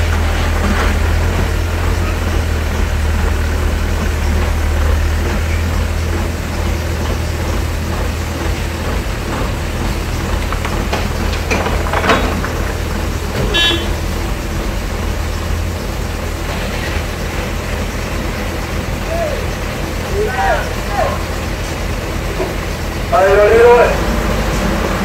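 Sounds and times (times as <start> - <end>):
knocks and clatter: 0.0 - 20.2, 21.0 - 23.1
excavator diesel engine running: 0.0 - 25.0.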